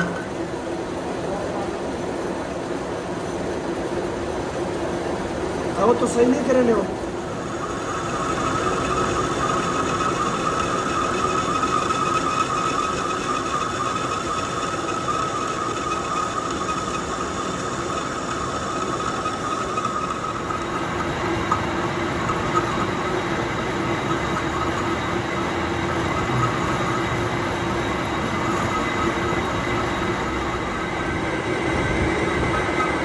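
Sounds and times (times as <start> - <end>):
workshop machinery whining: 0.0 - 33.0.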